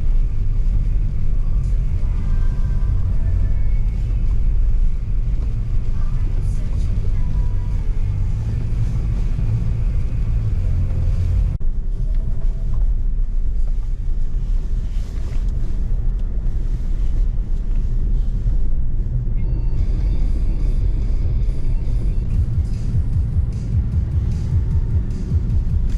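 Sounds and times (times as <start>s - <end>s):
car engine and tyres rumbling: 0.0s - 25.9s
wind: 0.0s - 25.9s.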